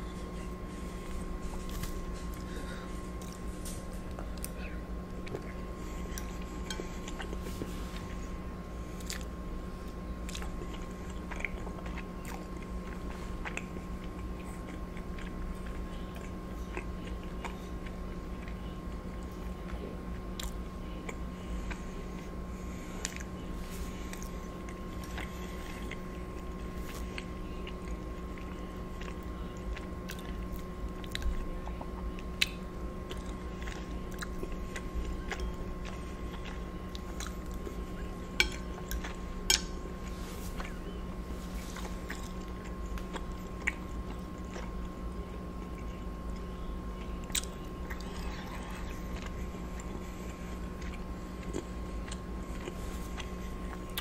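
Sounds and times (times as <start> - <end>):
low electrical hum: 0.0 - 54.0
chewing and mouth sounds: 0.1 - 54.0.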